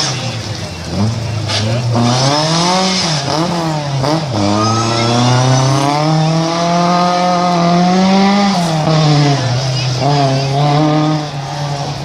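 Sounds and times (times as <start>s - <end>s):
rally car engine under hard throttle: 0.0s - 12.0s.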